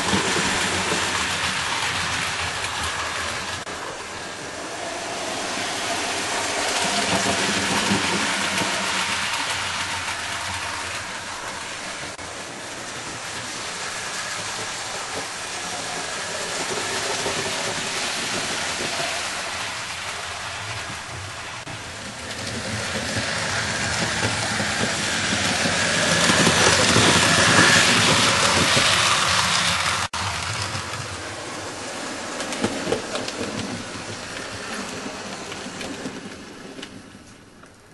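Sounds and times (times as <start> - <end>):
model train wheels rattling: 6.5 - 37.7.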